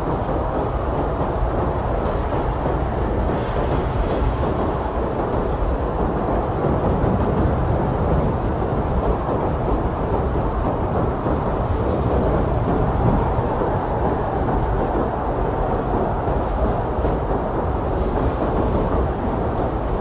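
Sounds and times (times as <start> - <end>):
strong blizzard wind: 0.0 - 20.0.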